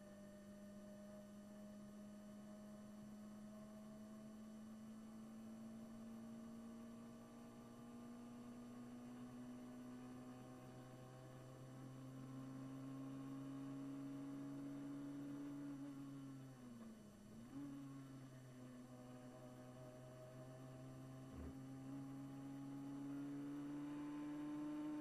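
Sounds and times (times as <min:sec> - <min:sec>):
race car engine at full throttle: 0:00.0 - 0:25.0.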